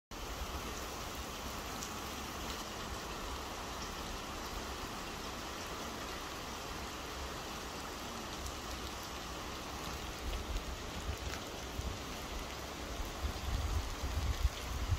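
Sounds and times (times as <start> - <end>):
rain pouring: 0.1 - 14.9.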